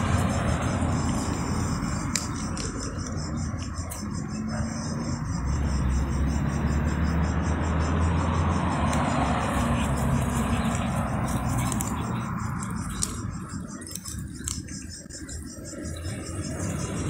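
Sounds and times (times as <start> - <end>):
crickets trilling: 0.0 - 17.0
passing traffic rumble: 0.0 - 17.0.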